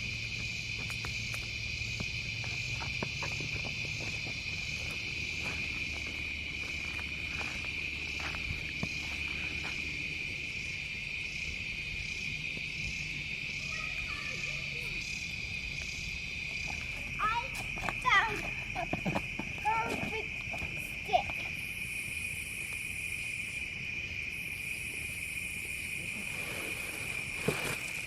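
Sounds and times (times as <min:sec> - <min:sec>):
crickets trilling: 0:00.0 - 0:28.0
pulsing insect call: 0:00.0 - 0:28.0.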